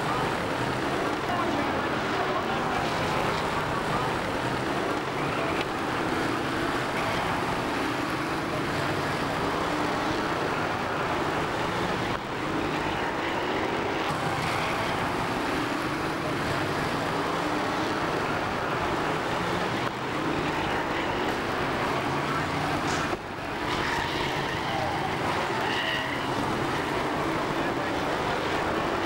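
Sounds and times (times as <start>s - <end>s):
race car engines droning: 0.0s - 29.0s.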